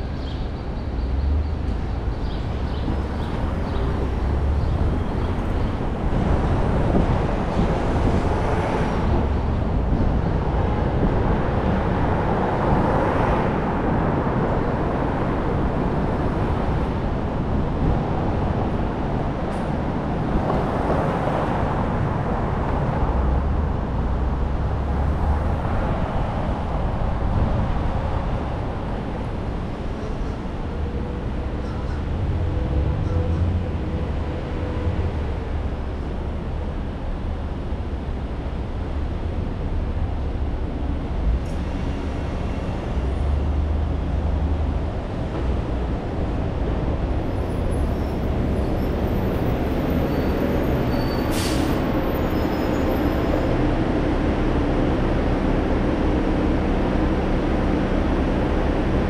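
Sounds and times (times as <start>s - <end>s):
road and tyre noise: 0.0s - 59.0s.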